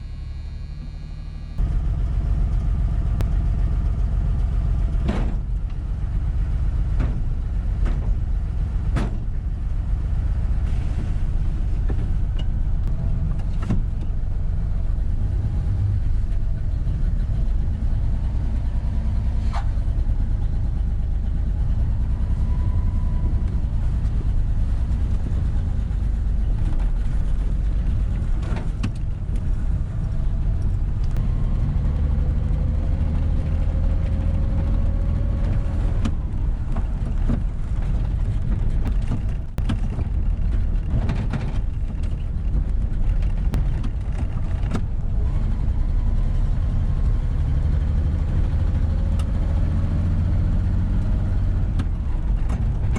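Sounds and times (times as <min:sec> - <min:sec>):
pickup truck engine and road rumble: 0:00.0 - 0:52.9.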